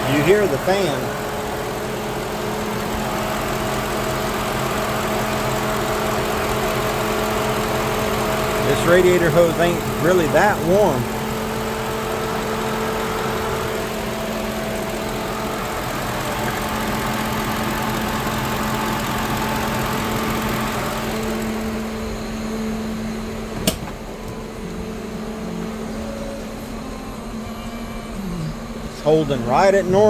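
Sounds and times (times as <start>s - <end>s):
car engine idling: 0.0s - 30.0s
radiator fan rushing air: 0.0s - 30.0s.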